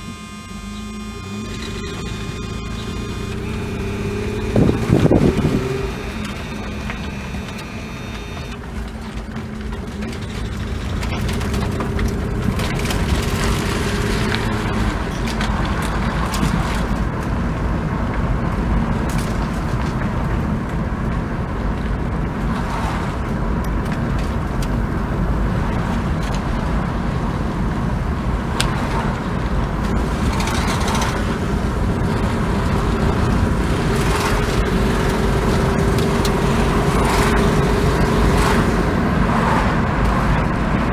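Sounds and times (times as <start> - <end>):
car engine misfiring: 0.0 - 40.9.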